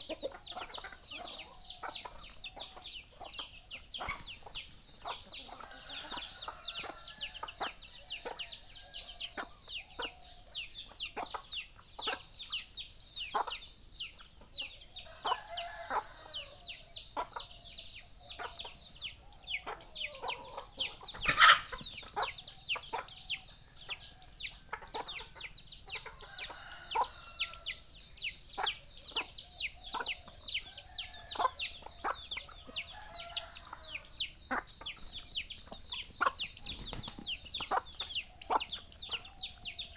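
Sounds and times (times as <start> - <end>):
hen clucking: 0.0 - 10.2, 10.8 - 12.6, 13.3 - 17.5, 18.2 - 39.9
chicks peeping: 0.0 - 39.9.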